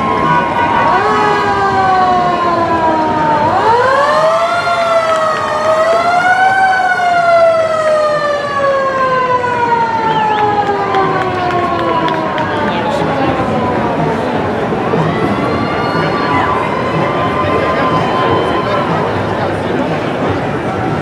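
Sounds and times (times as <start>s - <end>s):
siren wailing: 0.0s - 19.6s.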